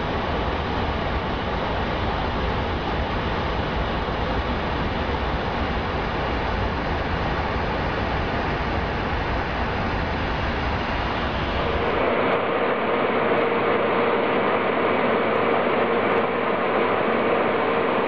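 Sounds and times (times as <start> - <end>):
aircraft cockpit rushing noise: 0.0 - 18.0
mid-pitched hum: 0.0 - 18.0.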